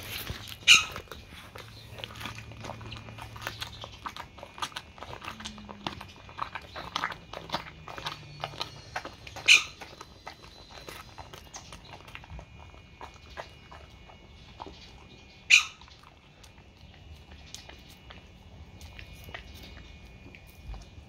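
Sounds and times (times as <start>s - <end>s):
dog crunching fish bone: 0.0s - 21.0s.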